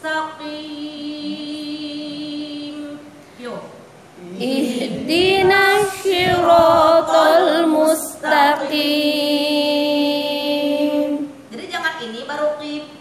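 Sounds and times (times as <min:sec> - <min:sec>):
woman chanting melodically: 0:00.0 - 0:11.6.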